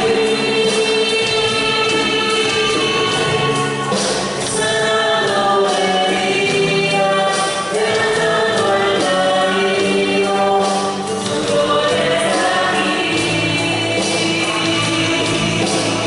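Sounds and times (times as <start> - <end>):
choir singing a worship song: 0.0 - 16.0
instrumental accompaniment: 0.0 - 16.0.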